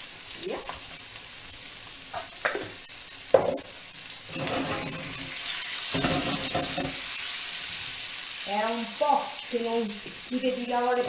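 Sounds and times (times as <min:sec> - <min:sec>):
peppers sizzling in hot oil: 0:00.0 - 0:11.0.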